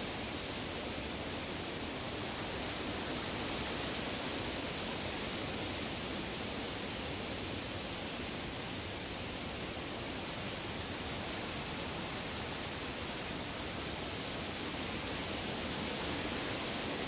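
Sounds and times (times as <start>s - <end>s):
steady woodland hiss: 0.0s - 17.0s.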